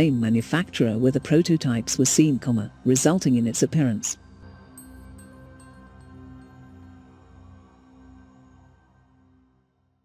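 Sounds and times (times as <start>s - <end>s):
music of sustained tones: 0.0s - 10.0s.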